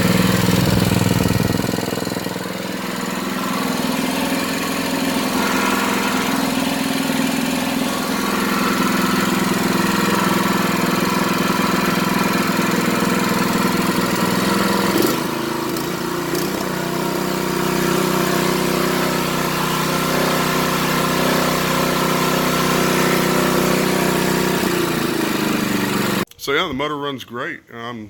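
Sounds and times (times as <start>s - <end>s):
small engine running: 0.0s - 26.3s.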